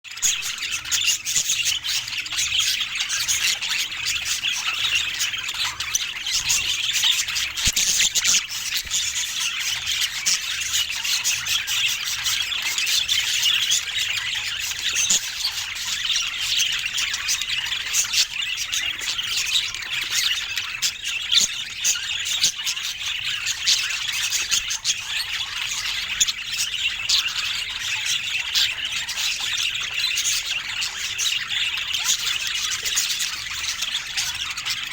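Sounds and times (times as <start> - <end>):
budgerigars chattering: 0.2 - 34.9.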